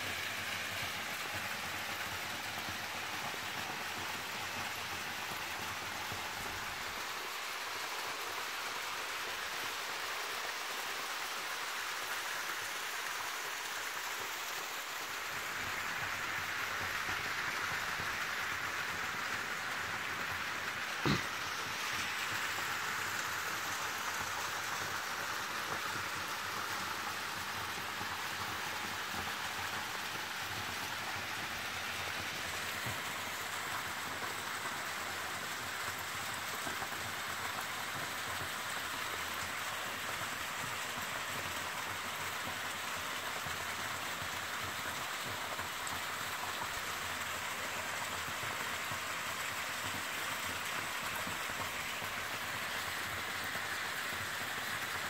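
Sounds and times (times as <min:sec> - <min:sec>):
waterfall splashing into pool: 0:00.0 - 0:55.0.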